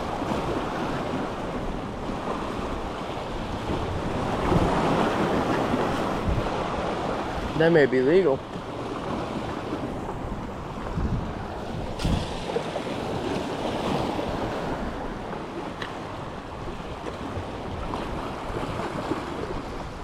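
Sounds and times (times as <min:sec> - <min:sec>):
waves washing against jetty: 0:00.0 - 0:20.0
wind buffeting microphone: 0:00.0 - 0:20.0.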